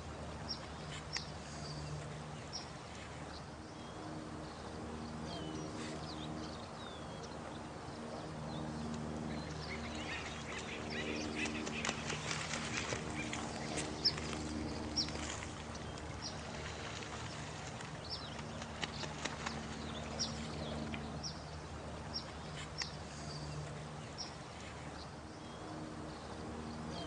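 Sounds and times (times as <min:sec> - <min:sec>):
running water: 0:00.0 - 0:25.2
low steady drone: 0:00.0 - 0:27.0.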